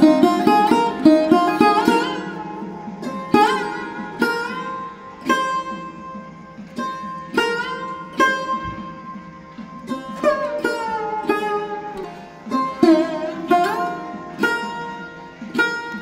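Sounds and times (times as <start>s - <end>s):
plucked sitar-like string instrument: 0.0s - 16.0s.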